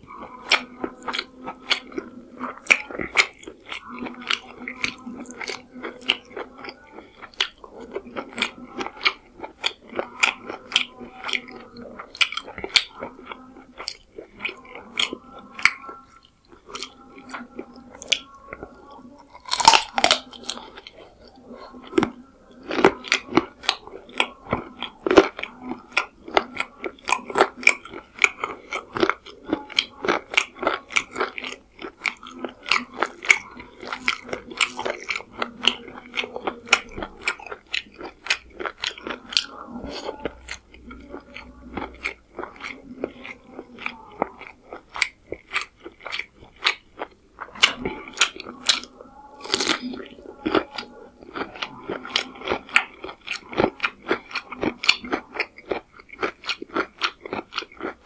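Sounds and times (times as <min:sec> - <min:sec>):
chewing and wet mouth smacks: 0:00.0 - 0:58.0.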